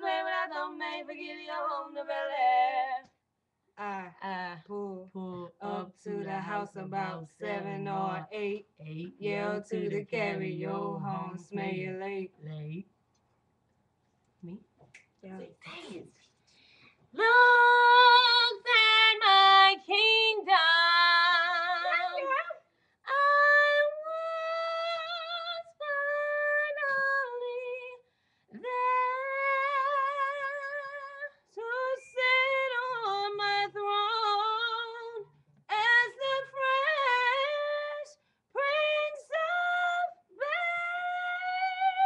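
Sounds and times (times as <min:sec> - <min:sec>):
woman singing unaccompanied: 0:00.0 - 0:03.1, 0:03.8 - 0:12.4, 0:17.1 - 0:42.0.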